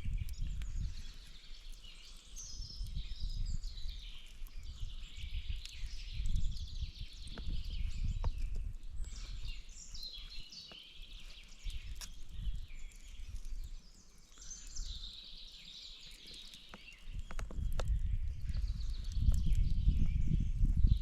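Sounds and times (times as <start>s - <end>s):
songbirds trilling: 0.0s - 21.0s.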